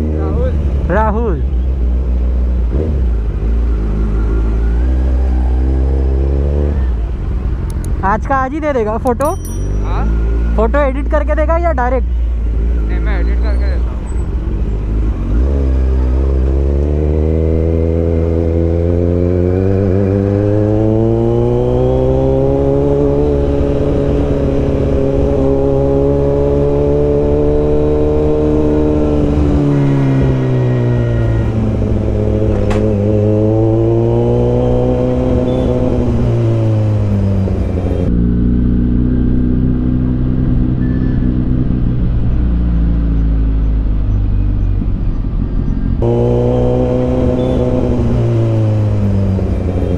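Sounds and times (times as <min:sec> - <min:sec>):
motorcycle engine revving: 0:00.0 - 0:08.0, 0:12.5 - 0:49.9.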